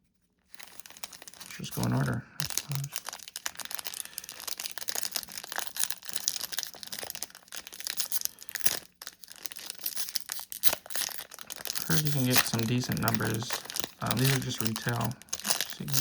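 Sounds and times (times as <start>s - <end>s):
wrapper and cards crinkling: 0.4s - 16.0s.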